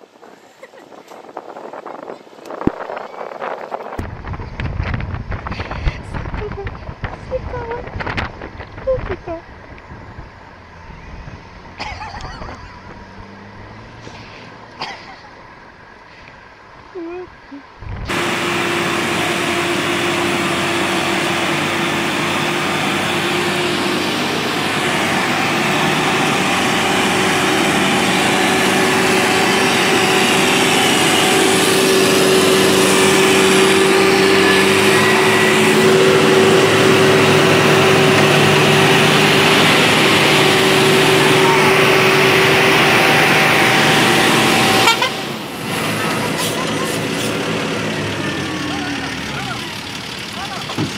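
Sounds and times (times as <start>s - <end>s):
heavy diesel engines under load: 3.6s - 50.9s.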